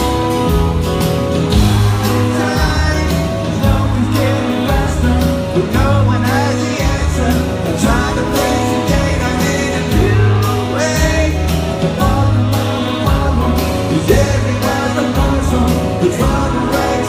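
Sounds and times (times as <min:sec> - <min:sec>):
live rock band playing: 0:00.0 - 0:17.0
person singing: 0:01.6 - 0:17.0.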